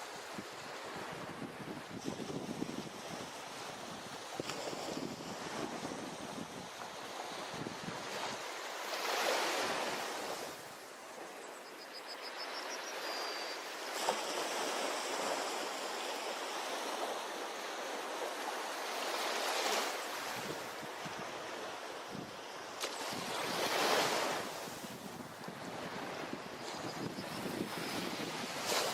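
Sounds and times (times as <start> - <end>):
ocean surf breaking on beach: 0.0 - 11.4, 13.0 - 28.9.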